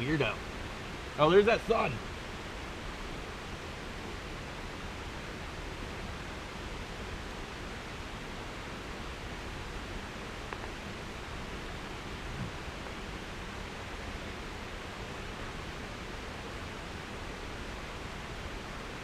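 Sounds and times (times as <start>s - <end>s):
steady noise hiss: 0.0s - 19.0s.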